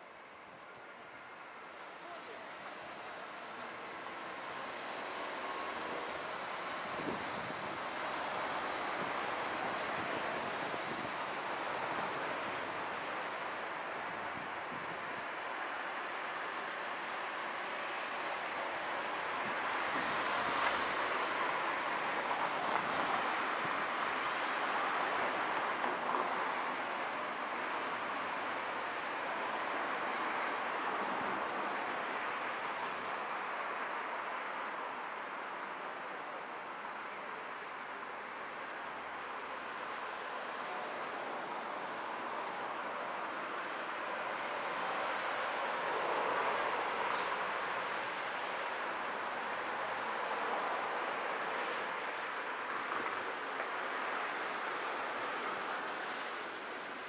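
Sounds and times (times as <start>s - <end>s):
road traffic hiss: 0.0s - 57.0s.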